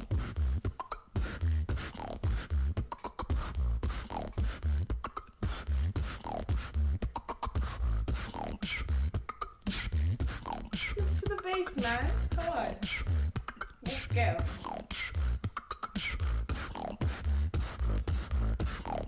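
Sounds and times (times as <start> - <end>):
woman beatboxing: 0.0 - 19.0.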